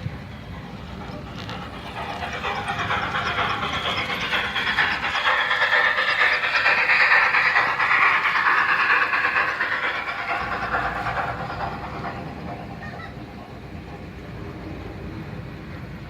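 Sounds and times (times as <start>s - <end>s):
toy train running on track: 0.0s - 16.0s.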